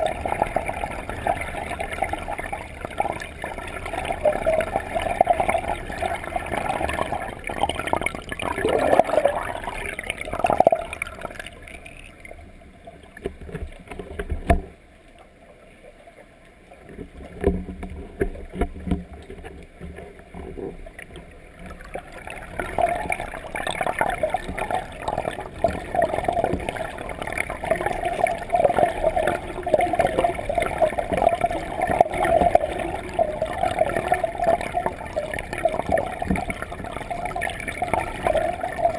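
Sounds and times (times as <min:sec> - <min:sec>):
muffled underwater swirling water: 0:00.0 - 0:38.9.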